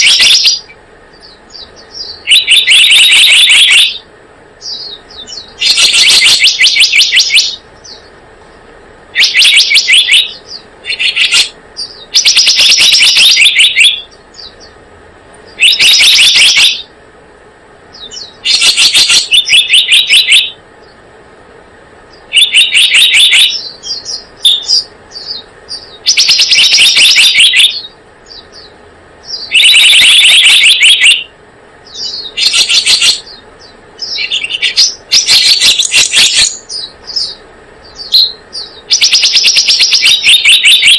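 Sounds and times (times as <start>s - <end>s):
bird chattering chirps: 0.0s - 14.8s, 15.4s - 16.9s, 17.9s - 21.0s, 22.1s - 40.9s.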